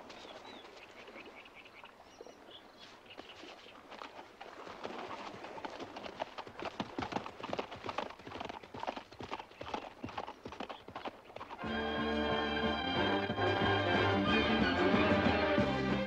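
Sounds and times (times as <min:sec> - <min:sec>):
horse hooves galloping on dirt: 0:00.0 - 0:01.3, 0:02.8 - 0:15.8.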